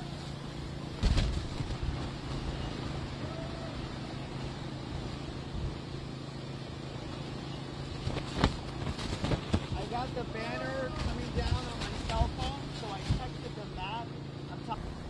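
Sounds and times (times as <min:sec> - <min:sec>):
hurricane wind and rain: 0:00.0 - 0:15.0
low steady hum: 0:00.0 - 0:15.0.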